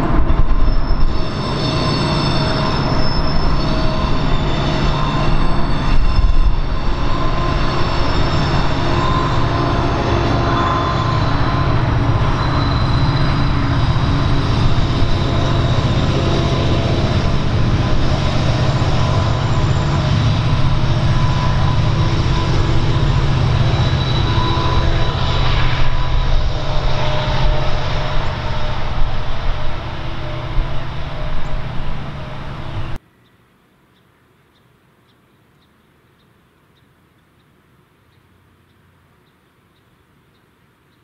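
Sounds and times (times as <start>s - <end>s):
high wheel squeal: 0.0s - 33.0s
train wheels rumbling on rail: 0.0s - 33.0s.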